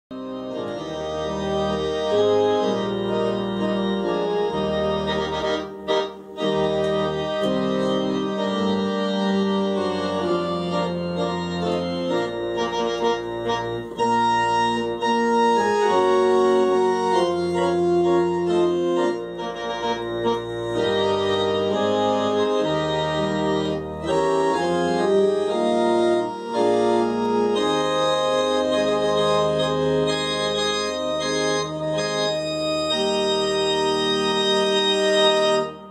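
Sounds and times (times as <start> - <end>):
organ playing chords: 0.1 - 35.9.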